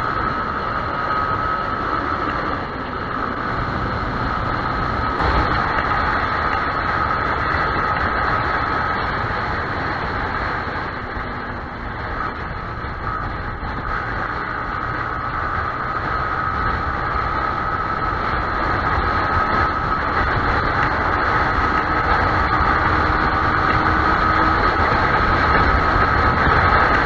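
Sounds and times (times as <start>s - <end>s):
motorcycle engine whine: 0.0s - 27.0s
wind rush: 0.0s - 27.0s.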